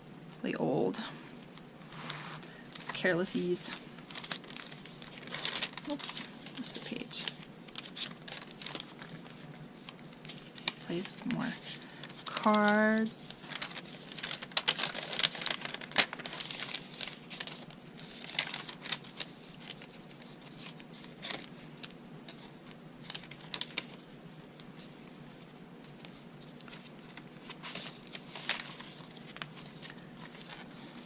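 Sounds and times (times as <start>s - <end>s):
paper rustling and crinkling: 1.8s - 31.0s.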